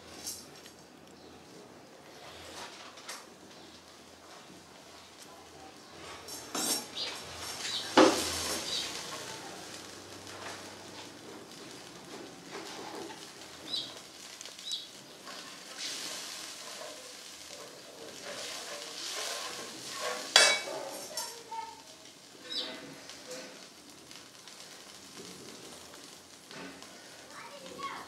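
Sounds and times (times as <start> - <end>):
seeds sizzling in oil: 0.0 - 28.0.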